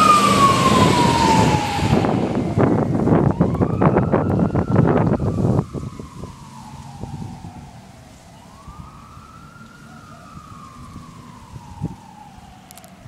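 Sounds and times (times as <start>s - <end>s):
distant fire truck siren wailing: 0.0s - 13.0s.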